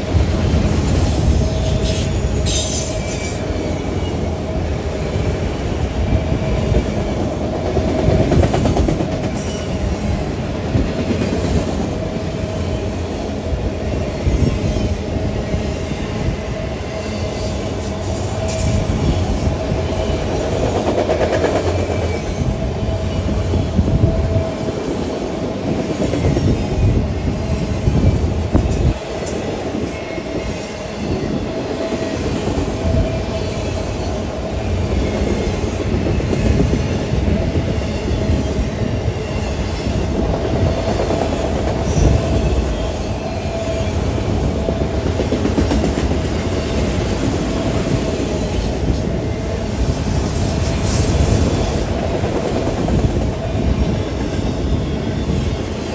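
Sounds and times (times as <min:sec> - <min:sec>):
steel wheels clattering on rail: 0:00.0 - 0:13.0, 0:13.9 - 0:55.9.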